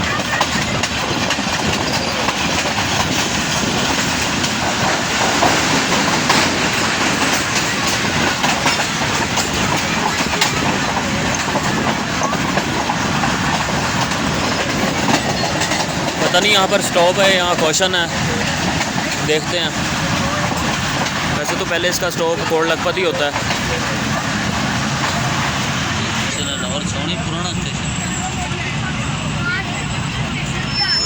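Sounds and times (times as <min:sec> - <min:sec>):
wheels clicking over rail joints: 0:00.0 - 0:30.4
train rumble and rattle: 0:00.0 - 0:31.0.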